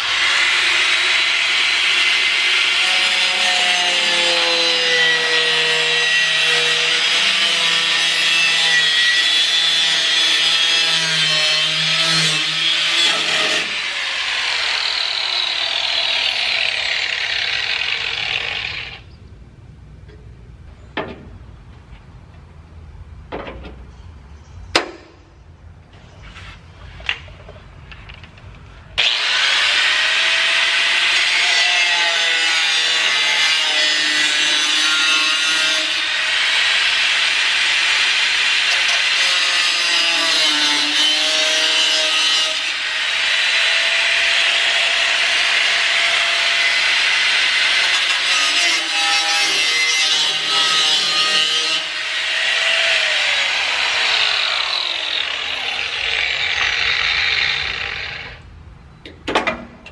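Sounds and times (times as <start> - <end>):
angle grinder cutting metal: 0.0 - 19.0, 29.0 - 58.5.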